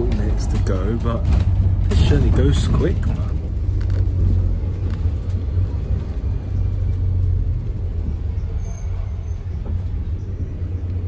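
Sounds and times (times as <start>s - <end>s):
bus engine rumble from inside: 0.0s - 11.0s.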